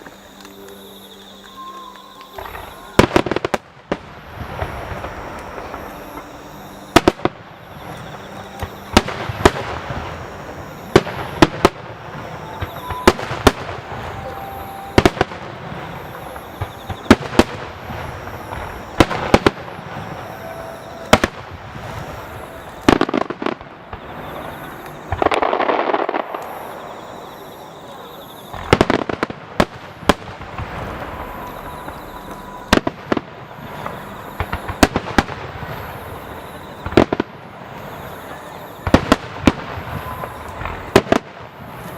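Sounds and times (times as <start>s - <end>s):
fireworks bursting with booms: 0.0s - 41.9s
rushing firework burst: 2.0s - 41.9s.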